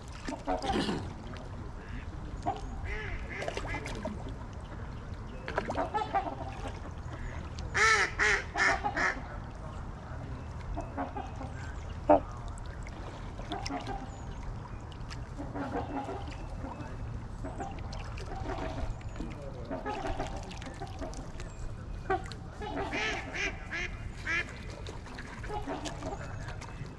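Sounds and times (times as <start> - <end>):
waterfowl honking and quacking: 0.1 - 0.7, 1.8 - 4.1, 5.5 - 9.5, 10.6 - 26.7.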